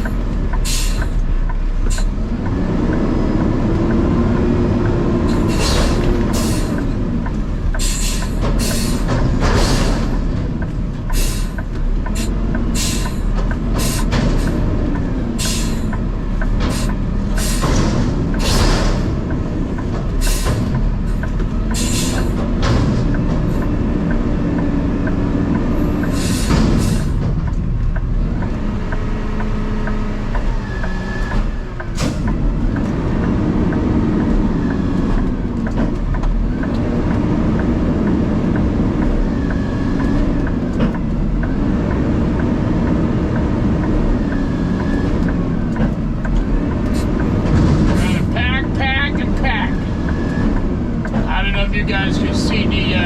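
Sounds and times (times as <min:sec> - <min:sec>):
knocks and rattles: 0:00.0 - 0:51.4
truck engine rumbling: 0:00.0 - 0:53.0.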